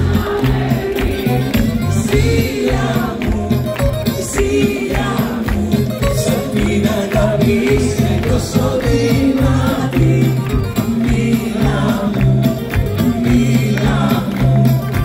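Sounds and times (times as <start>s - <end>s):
women singing through pa: 0.0s - 14.8s
accordion: 0.0s - 15.0s
drums steady beat: 0.0s - 15.0s
keyboard: 0.0s - 15.0s.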